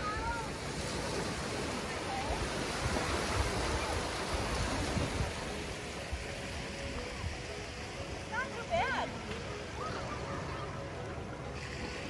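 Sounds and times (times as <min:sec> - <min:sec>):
waves washing onto sand: 0:00.0 - 0:12.0.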